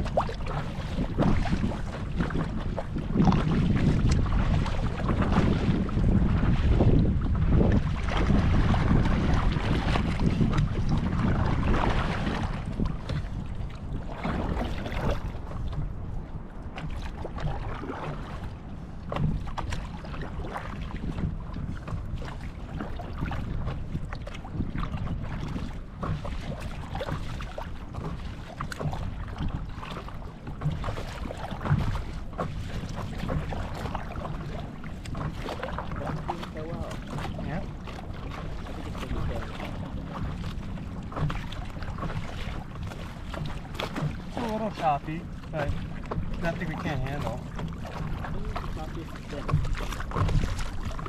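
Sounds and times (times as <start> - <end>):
water splashing around paddle board: 0.0 - 51.0
wind rumbling on microphone: 0.0 - 51.0.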